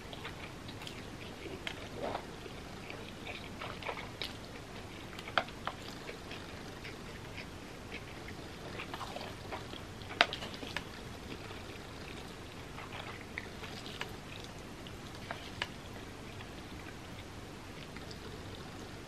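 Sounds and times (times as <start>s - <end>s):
person chewing noodles: 0.1s - 19.0s.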